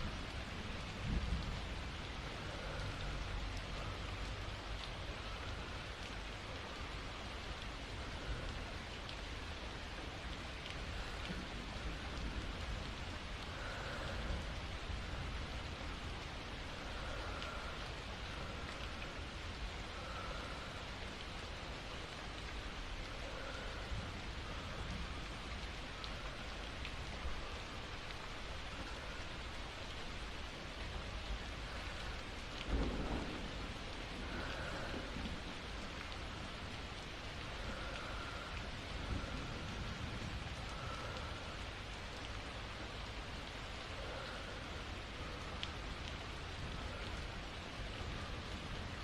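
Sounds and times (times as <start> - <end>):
low rumble of thunder: 0.0 - 29.2, 31.4 - 42.8
steady rain: 0.0 - 49.0.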